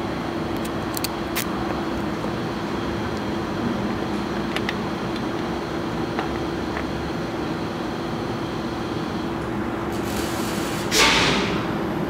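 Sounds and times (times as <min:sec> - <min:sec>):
machine drone with low hum: 0:00.0 - 0:12.0.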